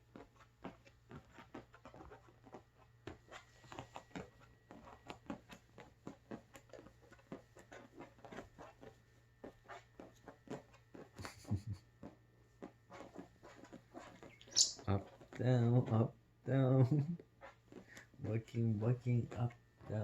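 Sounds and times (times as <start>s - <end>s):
cockatoo tapping and scratching: 0.0s - 16.0s, 16.9s - 20.0s.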